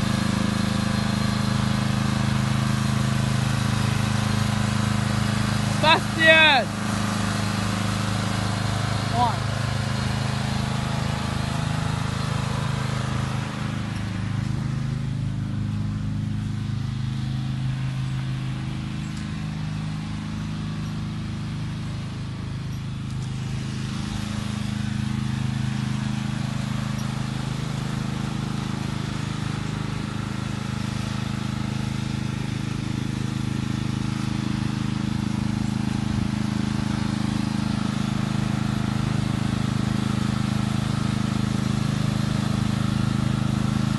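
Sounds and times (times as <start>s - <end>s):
lawnmower engine running: 0.0s - 43.9s.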